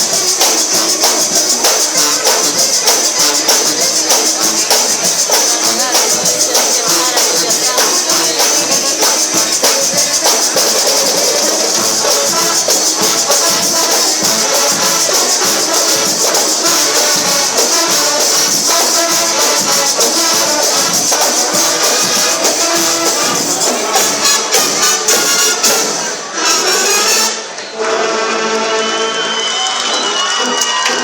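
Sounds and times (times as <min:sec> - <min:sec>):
brass and percussion music: 0:00.0 - 0:31.0.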